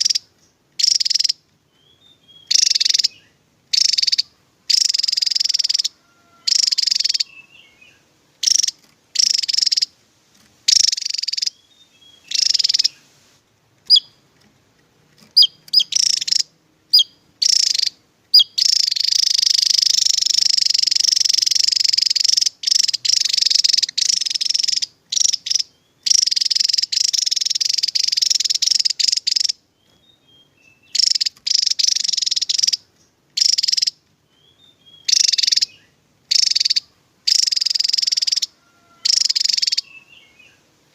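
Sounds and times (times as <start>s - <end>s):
short rising bird chirps: 0.0s - 10.0s, 10.7s - 13.2s, 13.9s - 14.2s, 15.2s - 40.7s
bird singing rapid high song: 0.0s - 13.1s, 13.8s - 14.5s, 15.1s - 40.9s.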